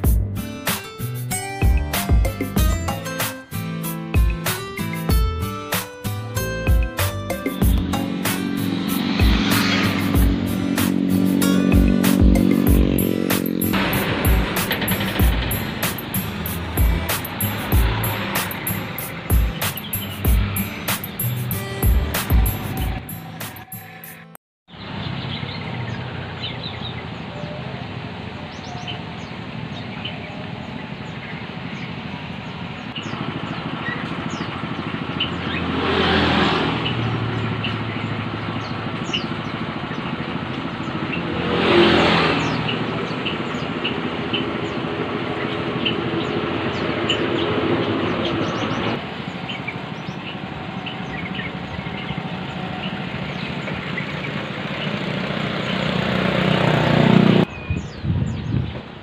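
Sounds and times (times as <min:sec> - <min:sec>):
road traffic passing: 0:00.0 - 0:59.0
caged birds chirping: 0:07.3 - 0:59.0.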